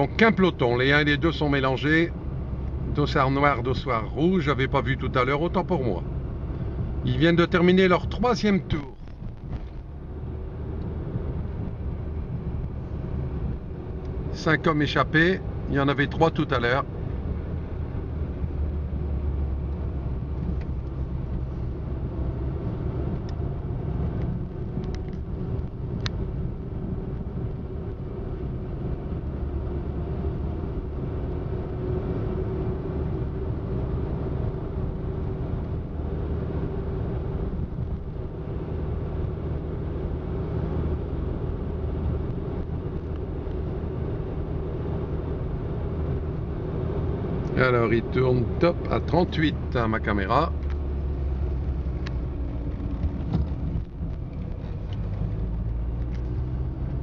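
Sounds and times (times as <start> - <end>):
motor vehicle rumble: 0.0 - 57.0.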